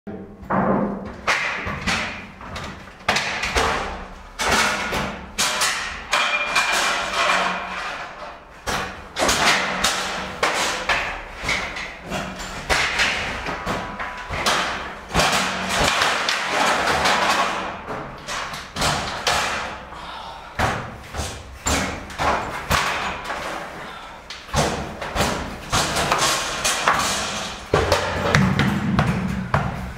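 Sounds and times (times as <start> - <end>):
ski kit clanking on metal stairs: 0.2 - 19.9, 20.6 - 29.9.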